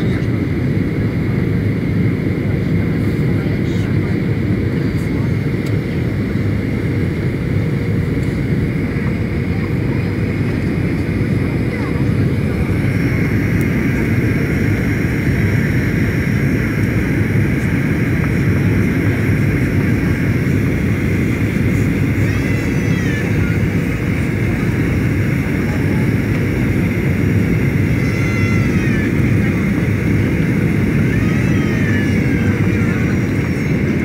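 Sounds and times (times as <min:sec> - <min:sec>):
airliner engine and airflow rumble: 0:00.0 - 0:34.0
faint steady whines: 0:00.0 - 0:34.0.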